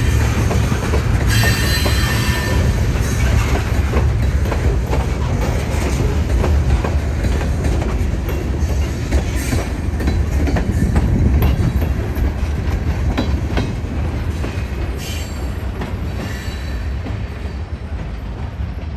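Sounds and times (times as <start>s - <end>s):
train wheels rumbling: 0.0s - 18.9s
wheels clicking over rail joints: 0.0s - 18.9s.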